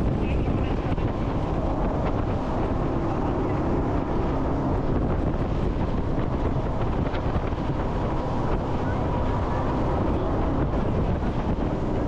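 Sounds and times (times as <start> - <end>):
boat engine drone: 0.0 - 12.0
rushing water: 0.0 - 12.0
wind buffeting microphone: 0.0 - 12.0.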